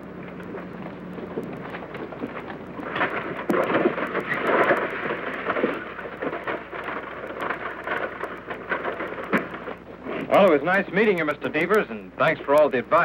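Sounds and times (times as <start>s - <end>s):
old film soundtrack hiss and crackle: 0.0s - 13.0s
rumbling noise: 0.0s - 13.0s.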